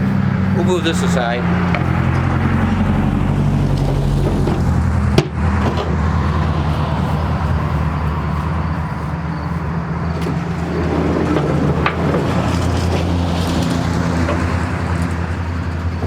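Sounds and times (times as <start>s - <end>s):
vehicle engine humming outside: 0.0s - 16.0s.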